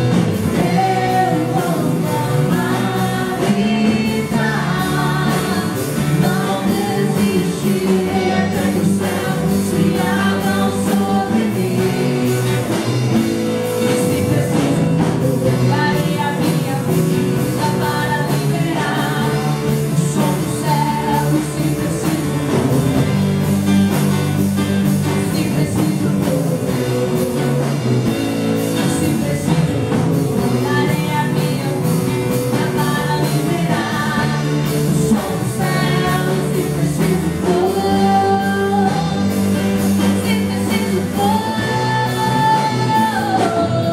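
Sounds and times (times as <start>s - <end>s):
person singing: 0.0s - 23.4s, 24.9s - 43.9s
worship song with band: 0.0s - 43.9s.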